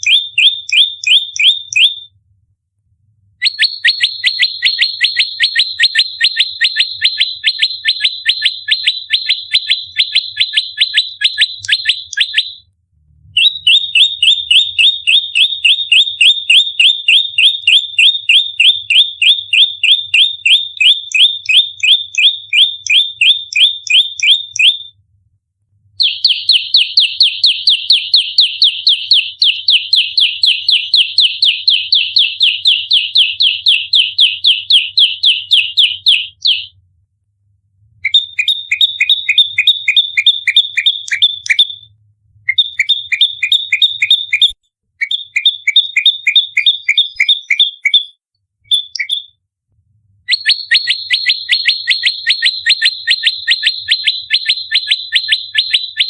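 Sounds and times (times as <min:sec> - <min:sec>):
bird chirping rapidly: 0:00.0 - 0:02.1, 0:03.4 - 0:12.6, 0:13.4 - 0:24.8, 0:26.0 - 0:36.7, 0:38.0 - 0:41.9, 0:42.5 - 0:49.4, 0:50.3 - 0:56.0.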